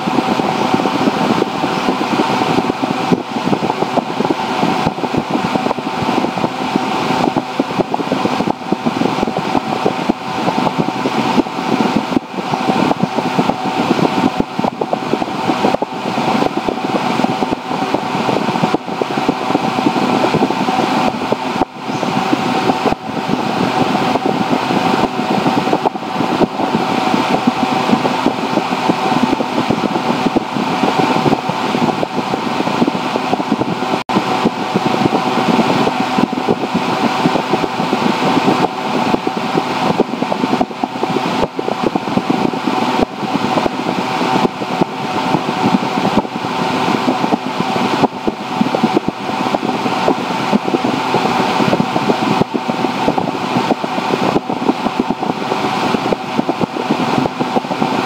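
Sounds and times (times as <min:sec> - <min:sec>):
loud fan-like machine hum: 0:00.0 - 0:58.0.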